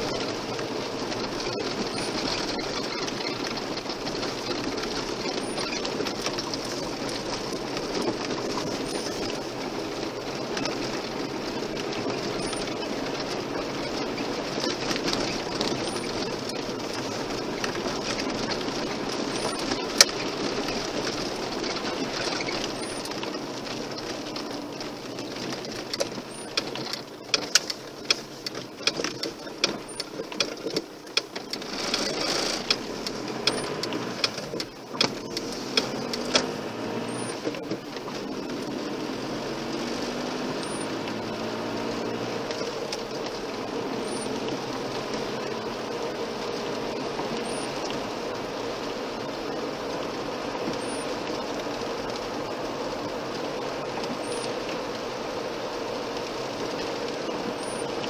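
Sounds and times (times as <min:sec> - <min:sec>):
car engine: 0:00.0 - 0:58.0
tyre and road noise: 0:00.0 - 0:58.0.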